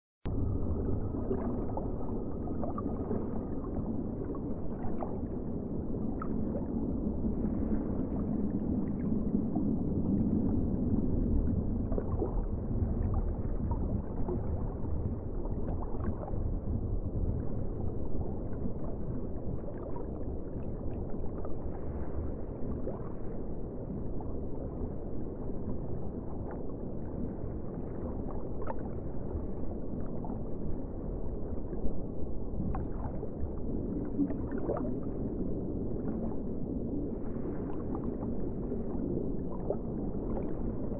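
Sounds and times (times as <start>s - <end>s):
muffled low underwater rumble: 0.2s - 40.9s.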